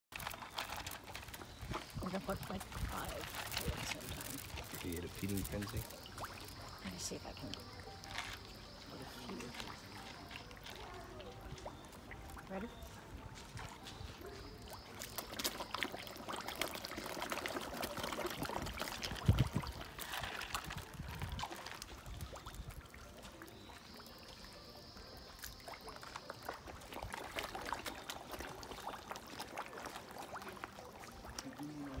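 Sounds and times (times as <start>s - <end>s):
fish splashing at surface: 0.2s - 12.5s, 14.4s - 31.9s.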